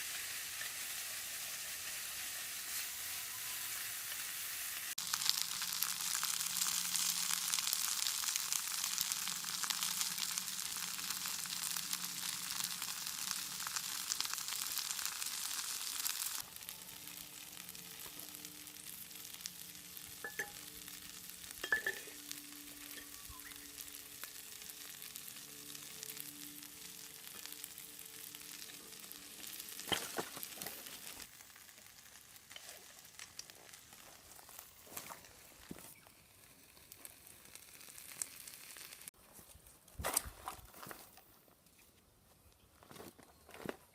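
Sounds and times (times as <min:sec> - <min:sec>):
noodles sizzling in a skillet: 0:00.0 - 0:39.2.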